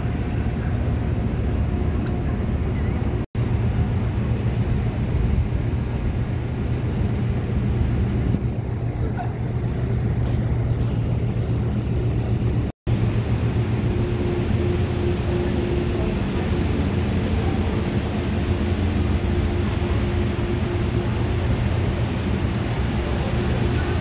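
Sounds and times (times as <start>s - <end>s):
ship engines rumbling: 0.0s - 24.0s.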